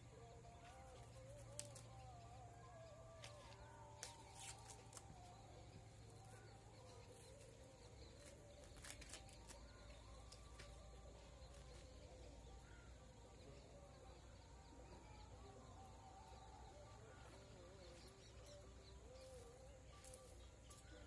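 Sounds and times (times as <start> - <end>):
faint distant birds calling: 0.0 - 21.0.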